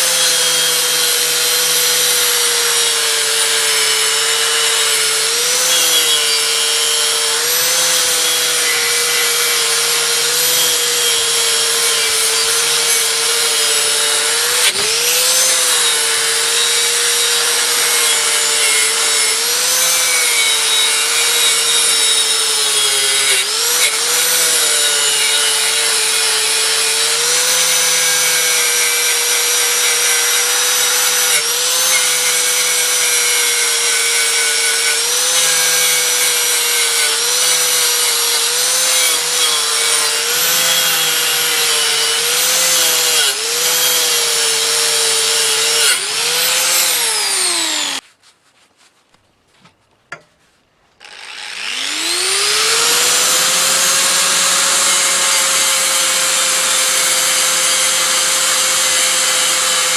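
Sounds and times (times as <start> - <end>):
electric grinder whining: 0.0 - 48.0, 51.0 - 59.9.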